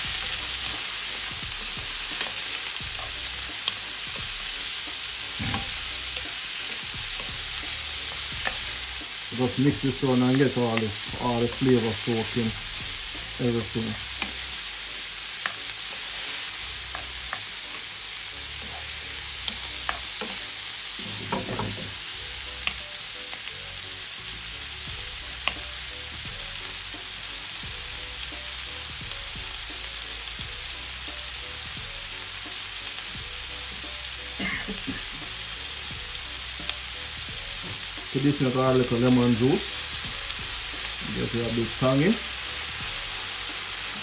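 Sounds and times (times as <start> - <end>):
vegetables sizzling in a frying pan: 0.0 - 44.0.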